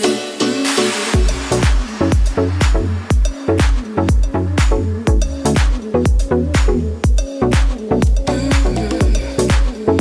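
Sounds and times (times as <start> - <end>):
electronic dance music: 0.0 - 10.0
sustained bass line: 1.1 - 10.0
kick drum beat: 1.2 - 10.0.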